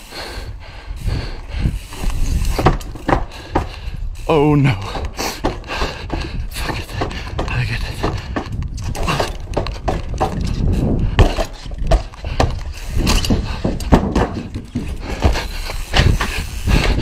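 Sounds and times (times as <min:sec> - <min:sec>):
wind on camera: 0:00.2 - 0:17.0
rolling rumble: 0:01.0 - 0:17.0
bike thudding on wood and metal: 0:01.2 - 0:17.0.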